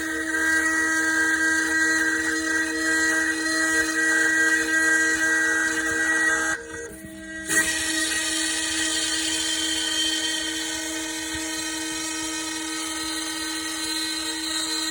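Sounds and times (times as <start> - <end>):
router spindle whining: 0.0 - 14.9.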